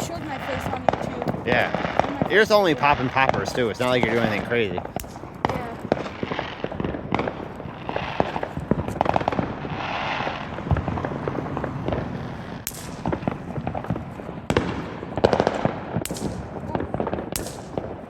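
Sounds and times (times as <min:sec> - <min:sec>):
firecrackers crackling and popping: 0:00.0 - 0:18.0.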